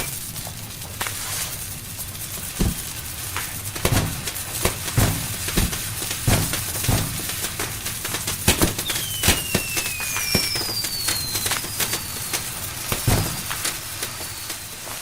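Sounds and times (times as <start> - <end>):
deep firework boom: 0.0 - 14.7
falling firework whistles: 0.0 - 15.0
fireworks bangs and crackling: 0.0 - 15.0.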